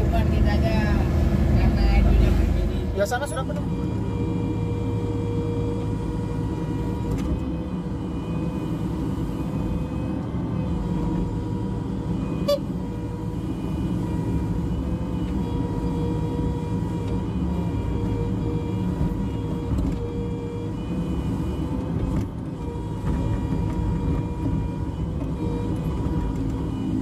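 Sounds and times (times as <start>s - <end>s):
constant whine: 0.0s - 27.0s
diesel engine running: 0.0s - 27.0s.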